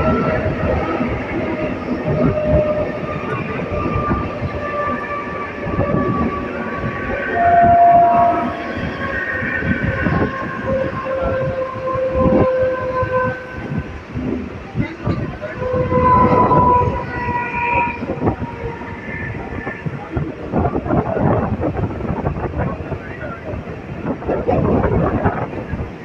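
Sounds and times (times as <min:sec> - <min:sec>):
train clattering on rails: 0:00.0 - 0:26.0.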